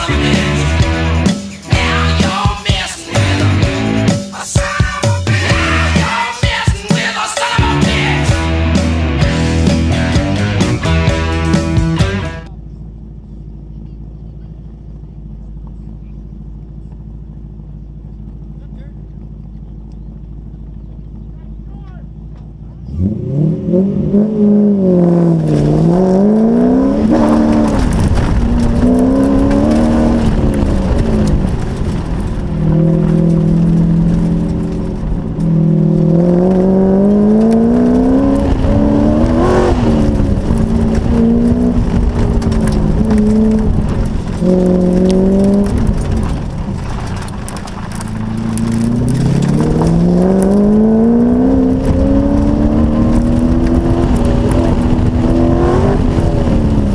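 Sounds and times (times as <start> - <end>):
sports car engine revving: 5.0 - 56.9.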